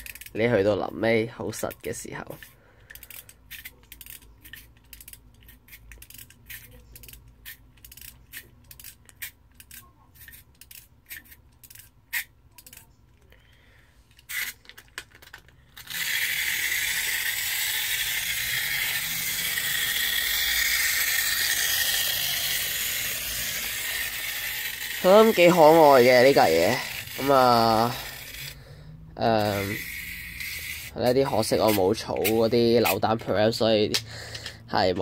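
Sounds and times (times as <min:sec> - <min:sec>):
toy train ratchet clicks: 0:00.0 - 0:00.6, 0:01.5 - 0:13.3, 0:14.2 - 0:28.6, 0:29.2 - 0:33.1, 0:33.9 - 0:34.6
toy train spring motor whirring: 0:00.0 - 0:00.9, 0:01.5 - 0:34.6.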